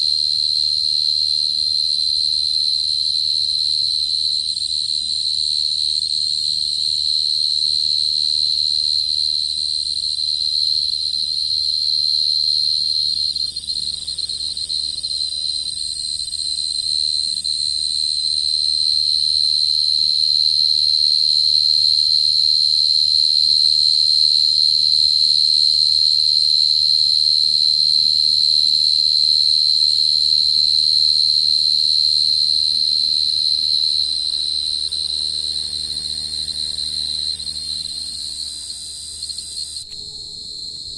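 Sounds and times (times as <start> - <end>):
cricket high-pitched trill: 0.0 - 40.9.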